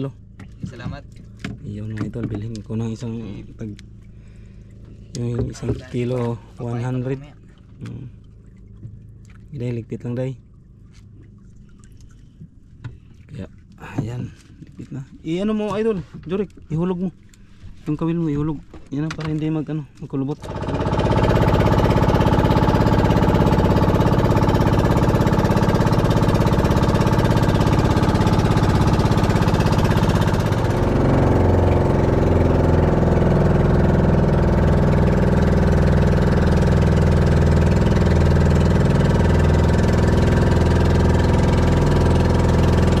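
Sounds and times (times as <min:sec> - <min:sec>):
boat engine running: 0:00.0 - 0:43.0.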